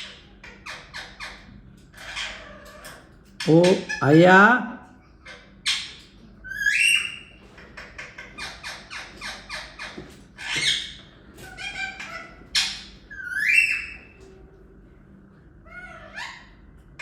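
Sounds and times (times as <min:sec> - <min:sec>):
parrot harsh screeches: 0:00.0 - 0:04.2, 0:05.2 - 0:14.2, 0:15.6 - 0:17.0
parrot squawking: 0:00.0 - 0:14.2, 0:15.6 - 0:17.0.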